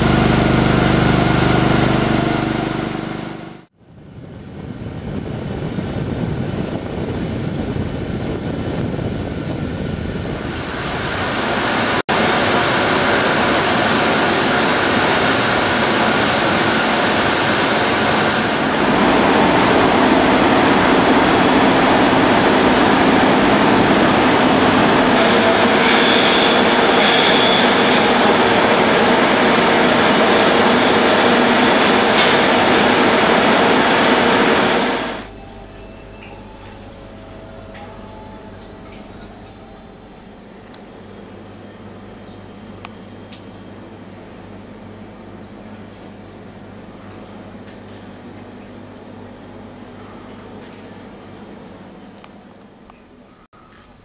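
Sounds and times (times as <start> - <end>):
heavy industrial machinery roaring: 0.0 - 52.0
engines and pumps running: 0.0 - 53.4.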